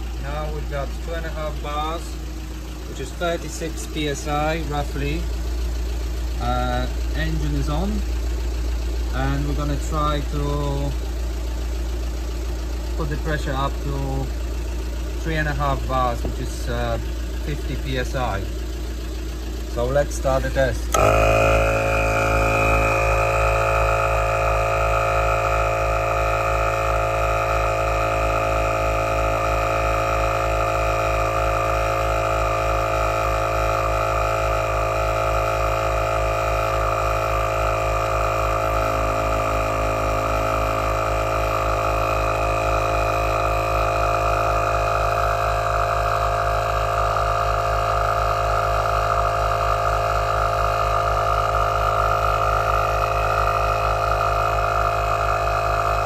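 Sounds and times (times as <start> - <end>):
air compressor pulsing: 0.0 - 56.0.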